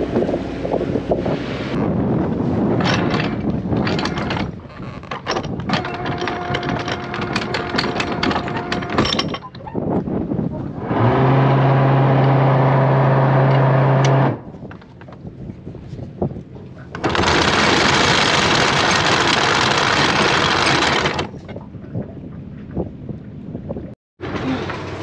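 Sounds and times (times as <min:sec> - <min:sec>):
anchor windlass motor humming: 0:00.0 - 0:16.2, 0:16.9 - 0:22.9
wind on microphone: 0:00.0 - 0:24.0.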